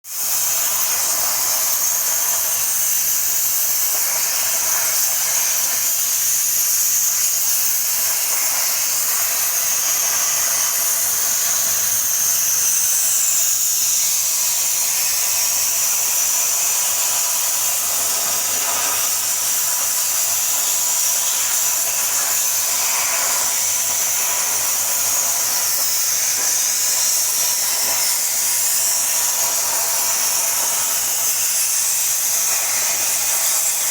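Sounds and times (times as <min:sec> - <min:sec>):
plasma cutter hissing: 0:00.1 - 0:33.9.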